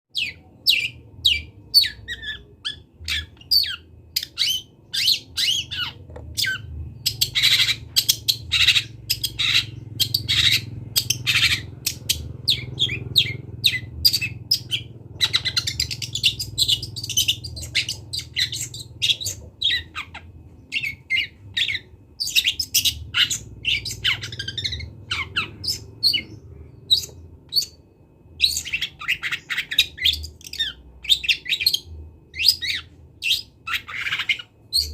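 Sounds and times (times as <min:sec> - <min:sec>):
bird singing varied chattering song: 0:00.1 - 0:34.9
faint low hum: 0:00.2 - 0:34.9.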